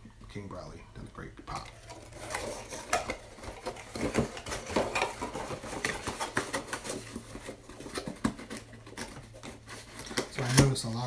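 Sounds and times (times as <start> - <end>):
cardboard boxes knocking and rustling: 1.9 - 10.8.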